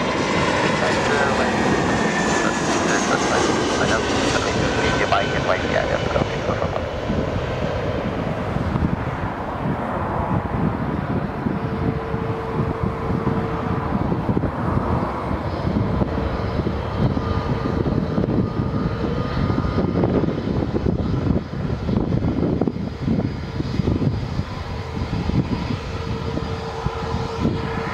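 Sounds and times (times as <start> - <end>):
jet engines rumbling on landing: 0.0 - 27.9.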